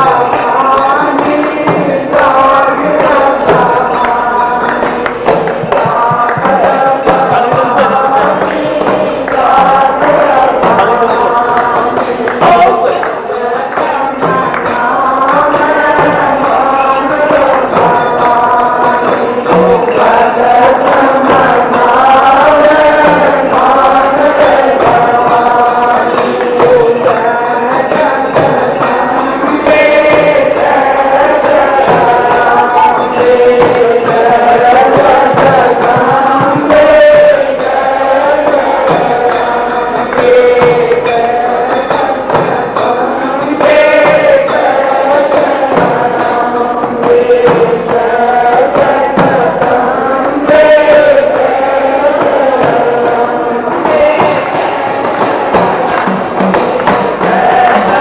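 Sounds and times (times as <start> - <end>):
devotional song chanted: 0.0 - 58.0
steady drum beat: 0.0 - 58.0.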